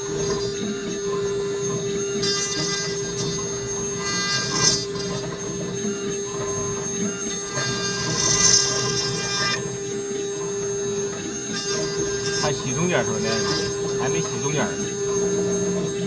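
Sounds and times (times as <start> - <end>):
end mill cutting wood: 0.0 - 16.0
router spindle humming: 0.0 - 16.0.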